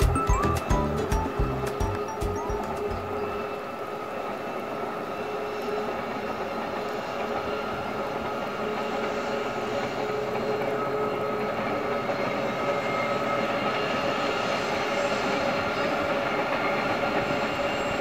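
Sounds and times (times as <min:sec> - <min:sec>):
distant train rumble: 0:00.0 - 0:18.0.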